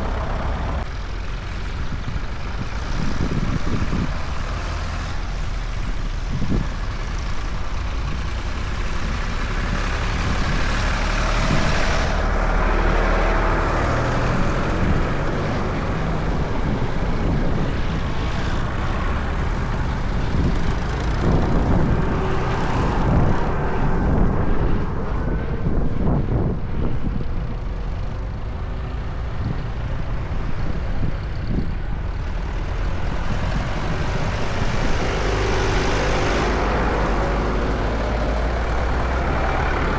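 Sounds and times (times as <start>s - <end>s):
tractor engines on road: 0.0s - 39.9s.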